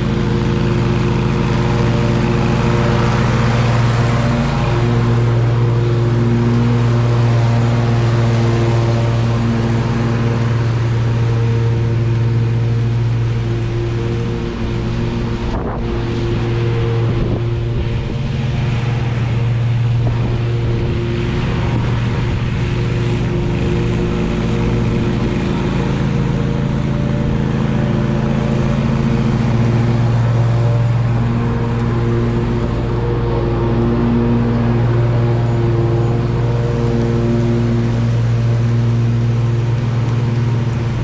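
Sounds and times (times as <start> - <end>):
lawn mower running: 0.0 - 41.0.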